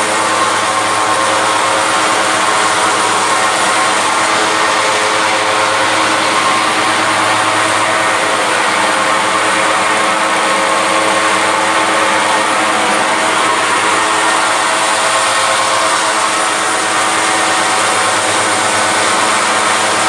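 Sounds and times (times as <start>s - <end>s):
furnace plant machine noise: 0.0s - 20.0s.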